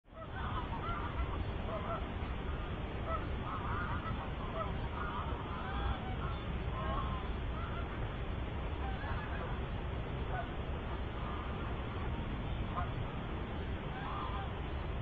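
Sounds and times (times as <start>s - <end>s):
geese honking: 0.1s - 8.0s, 8.8s - 9.6s, 10.2s - 12.1s, 12.7s - 14.9s
steady low rumble: 0.1s - 15.0s.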